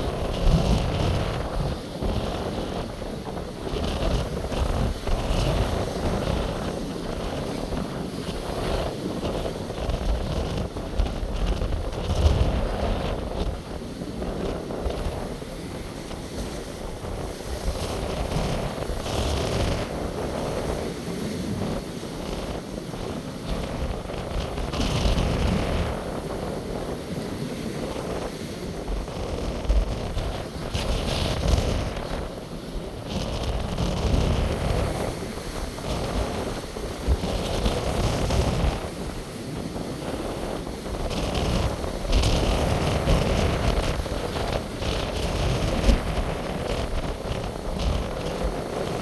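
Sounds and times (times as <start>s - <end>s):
sea waves washing: 0.0s - 49.0s
wind buffeting microphone: 0.0s - 49.0s.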